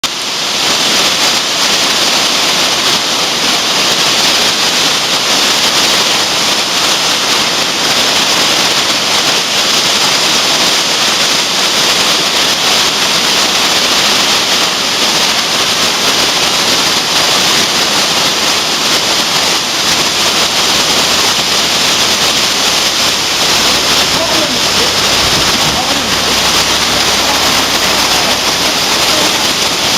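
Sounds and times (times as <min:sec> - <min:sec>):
running water: 0:00.0 - 0:29.9
torrential rain: 0:00.0 - 0:29.9.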